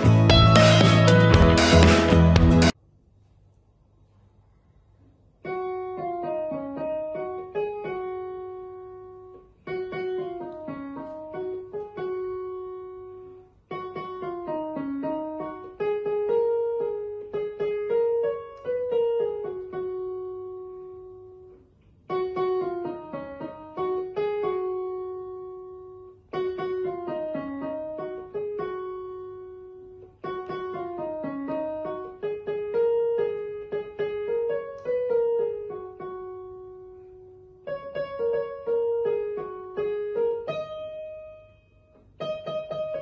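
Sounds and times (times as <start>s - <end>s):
keyboard piano melody: 0.0s - 2.8s, 5.4s - 43.0s.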